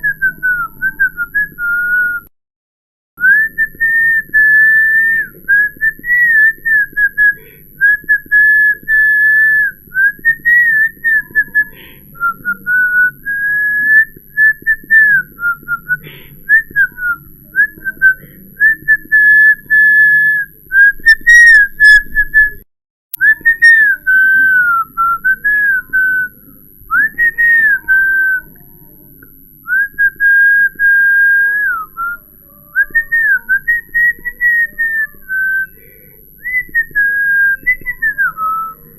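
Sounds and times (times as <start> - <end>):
person whistling: 0.0 - 2.3, 3.2 - 22.6, 23.2 - 28.6, 29.7 - 32.2, 32.8 - 38.9.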